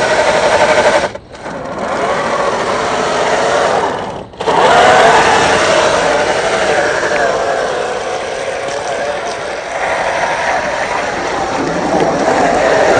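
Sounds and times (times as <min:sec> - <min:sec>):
electric motor and gearbox whining: 0:00.0 - 0:12.9.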